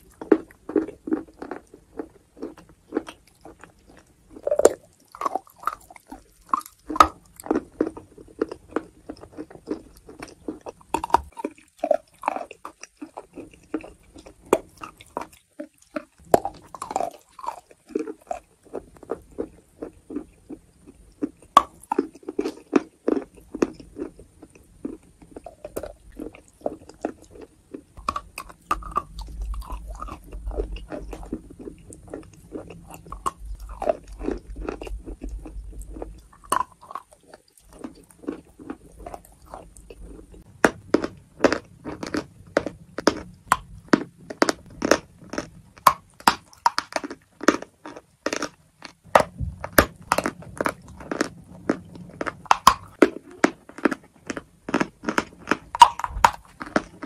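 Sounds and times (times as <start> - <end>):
chewing chalk crunching: 0.0 - 57.0.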